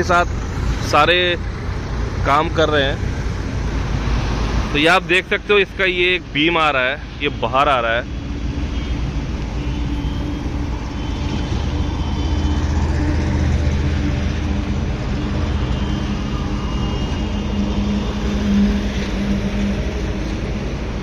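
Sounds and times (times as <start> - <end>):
construction machinery drone: 0.0 - 21.0
road traffic engines: 0.0 - 21.0.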